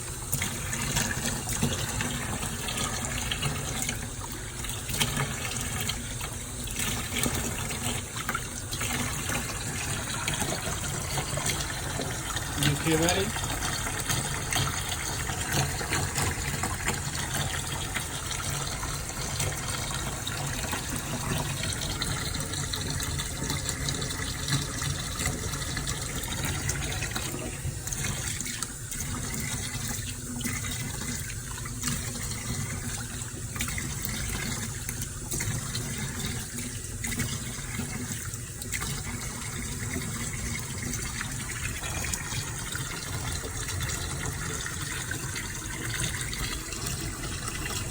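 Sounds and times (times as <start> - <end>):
tap water running and splashing: 0.0 - 47.9.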